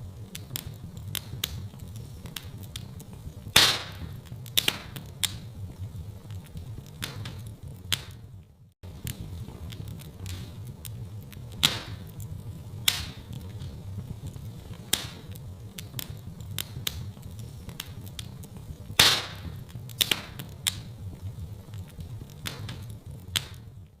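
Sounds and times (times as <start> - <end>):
low rumble of flames: 0.0 - 24.0
wood fire crackling and popping: 0.0 - 24.0.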